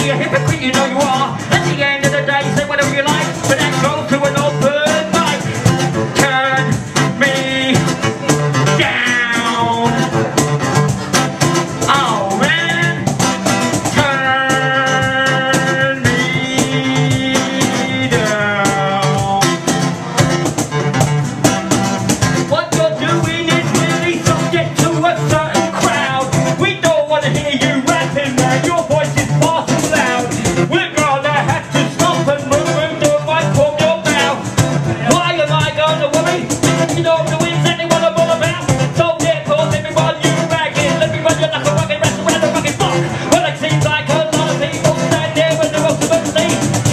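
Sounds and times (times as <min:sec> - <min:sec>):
man singing into a microphone: 0:00.0 - 0:10.4, 0:11.7 - 0:19.9, 0:22.4 - 0:46.9
guitar strumming rhythm: 0:00.0 - 0:46.9.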